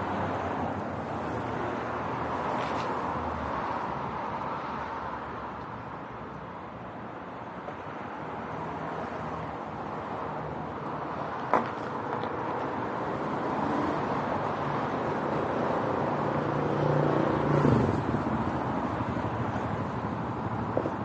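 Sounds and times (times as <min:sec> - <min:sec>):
passing car traffic: 0:00.0 - 0:21.0.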